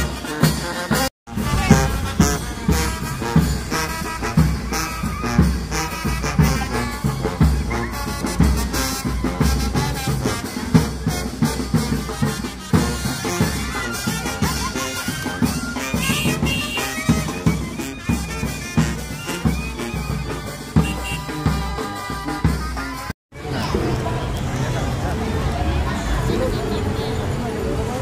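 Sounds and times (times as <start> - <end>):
bass drum beat: 0.0 - 22.8
brass horns playing a tune: 0.0 - 23.1.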